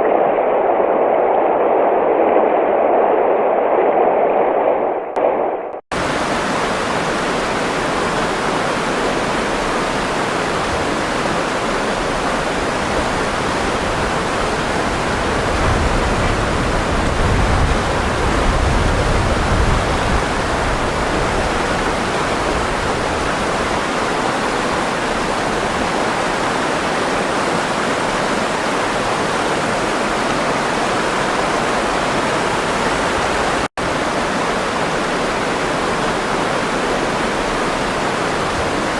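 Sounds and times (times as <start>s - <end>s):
running water rushing: 5.9s - 38.9s.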